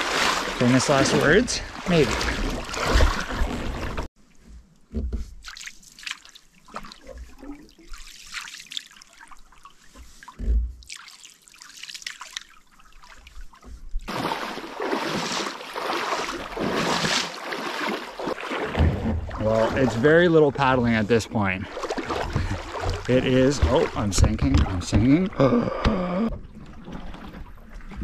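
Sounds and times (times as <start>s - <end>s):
light splashes: 0.0s - 4.1s, 5.4s - 20.9s, 21.6s - 25.3s
rushing water: 0.0s - 4.1s, 5.4s - 28.0s.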